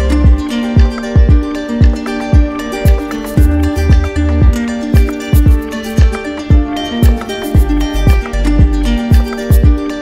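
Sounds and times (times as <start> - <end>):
background music with thumping beat: 0.0 - 10.0.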